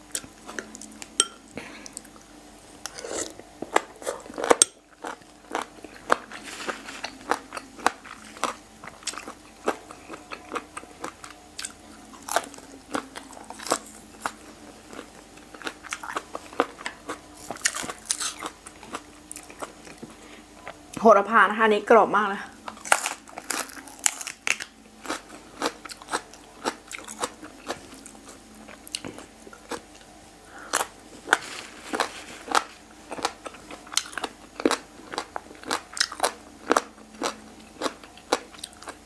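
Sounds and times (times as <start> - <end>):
crunching and chewing food: 0.0 - 21.0, 22.5 - 39.0.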